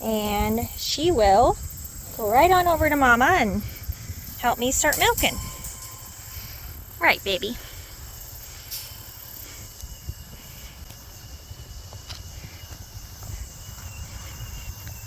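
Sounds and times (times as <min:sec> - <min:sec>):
high insect drone: 0:00.0 - 0:15.0
low wind-like rumble: 0:00.0 - 0:15.0.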